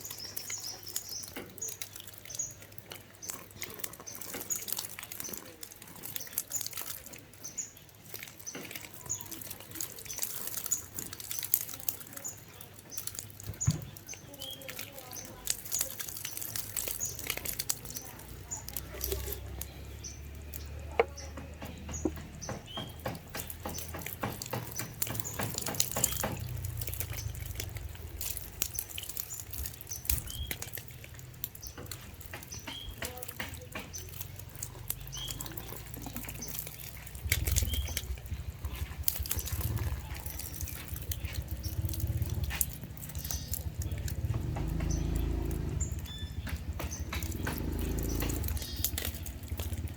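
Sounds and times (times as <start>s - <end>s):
water dripping and splashing: 0.0s - 49.9s.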